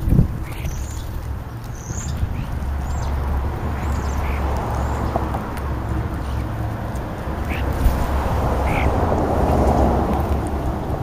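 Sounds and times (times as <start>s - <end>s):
starlings squawking and chirping: 0.0s - 10.0s
steady low rumble: 0.0s - 11.0s.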